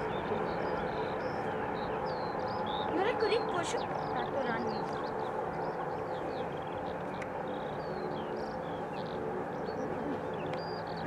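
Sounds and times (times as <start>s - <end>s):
aircraft engines rumbling: 0.0s - 11.0s
small birds chirping: 0.0s - 11.0s.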